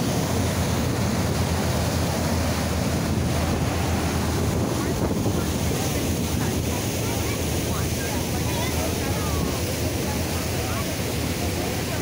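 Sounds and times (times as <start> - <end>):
rush of churning wake: 0.0 - 12.0
wind rumbling on microphone: 0.0 - 12.0.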